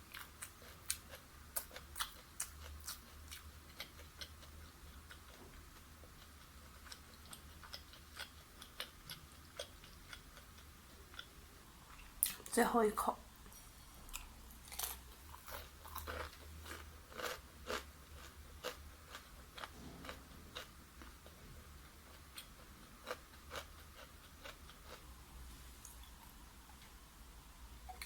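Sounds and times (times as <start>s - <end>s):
chewing crunchy fried chicken: 0.0s - 12.5s, 14.0s - 25.1s
low steady hum: 0.0s - 28.0s.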